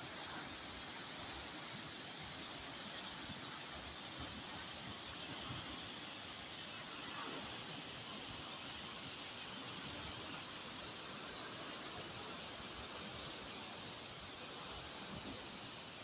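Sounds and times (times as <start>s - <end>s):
fast-flowing river water: 0.0s - 16.0s.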